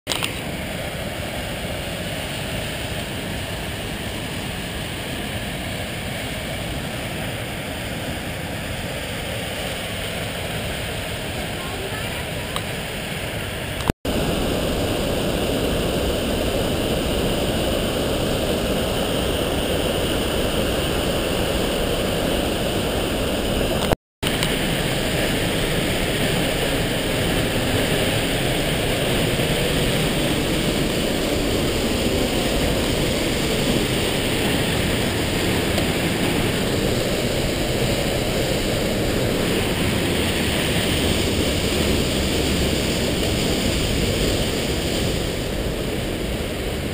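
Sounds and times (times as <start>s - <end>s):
waterfall rushing: 0.1s - 46.9s.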